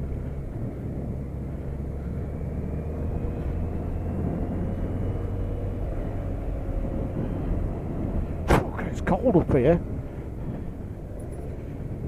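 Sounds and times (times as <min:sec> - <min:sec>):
faint rising whine: 0:00.0 - 0:12.0
motorcycle engine rumble: 0:00.0 - 0:12.0.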